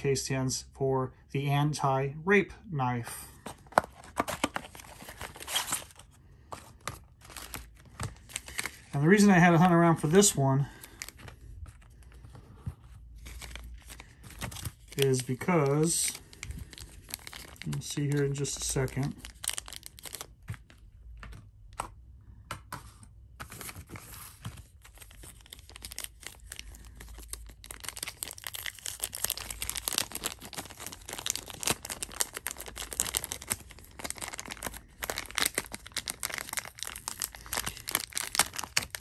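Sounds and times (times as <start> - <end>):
packaging crinkling and rustling: 3.4 - 21.4, 23.4 - 39.0.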